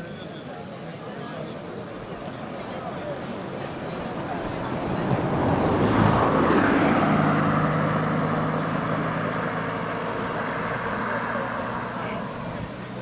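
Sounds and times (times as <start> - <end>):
car driving past: 2.6 - 13.0.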